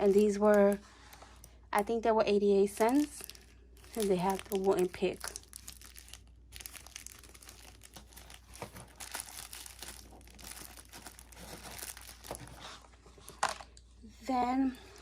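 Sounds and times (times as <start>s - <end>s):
plastic wrapping crinkling: 0.0s - 1.5s, 2.6s - 13.4s.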